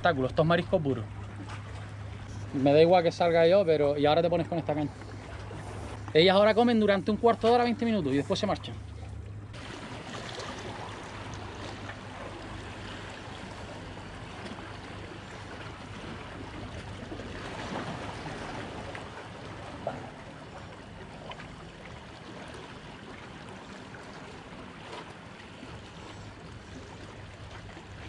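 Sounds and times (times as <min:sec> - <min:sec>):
sea water washing on shore: 0:00.0 - 0:28.0.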